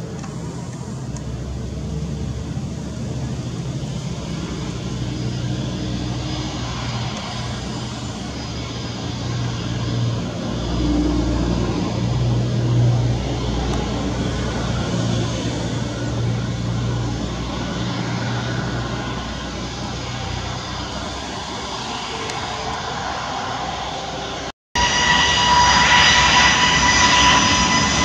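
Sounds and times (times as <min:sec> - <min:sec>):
jet engines at taxi power: 0:00.0 - 0:28.0.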